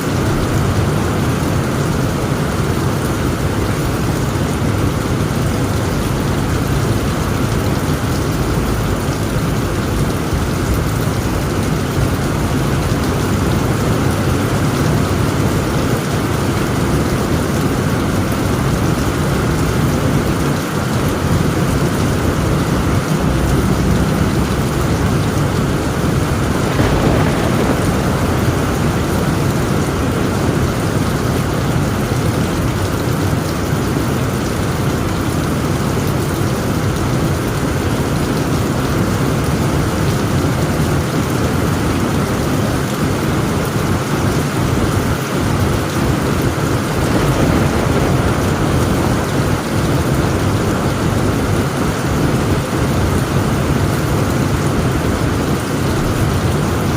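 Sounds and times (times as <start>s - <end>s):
heavy rain on a tent roof: 0.0s - 56.9s
low thunder rumble: 0.0s - 56.9s.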